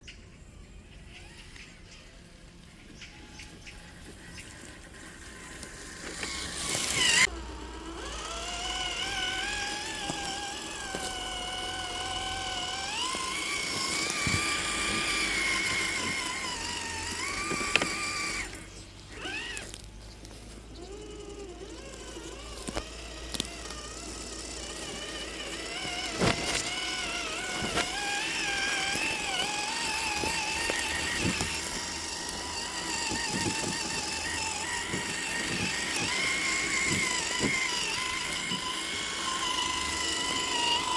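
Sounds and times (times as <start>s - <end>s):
electric motor whine: 0.4s - 40.9s.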